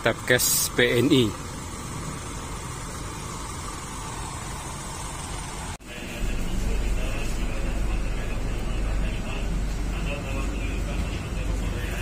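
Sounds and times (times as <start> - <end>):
bus engine rumble: 0.0 - 12.0
bus terminal hum: 0.0 - 12.0.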